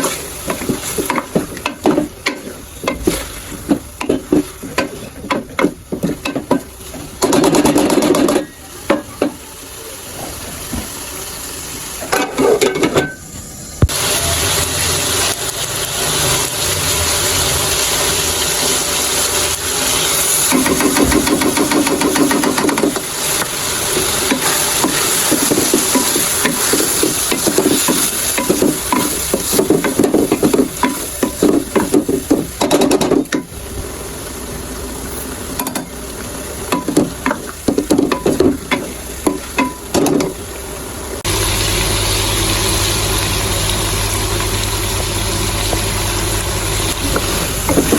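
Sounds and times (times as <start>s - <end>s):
chicken sizzling in a pot: 0.0s - 47.9s.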